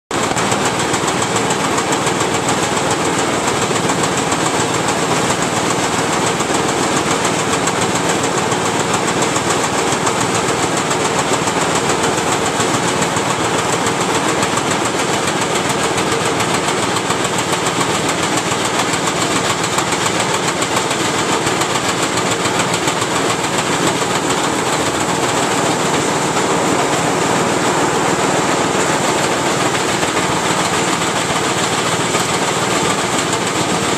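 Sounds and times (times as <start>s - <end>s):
auger machine running: 0.1s - 33.9s.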